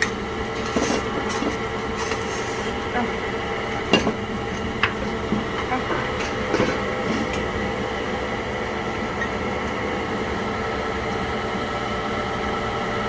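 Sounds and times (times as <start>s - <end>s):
kitchen appliance whirring hum: 0.0s - 13.0s.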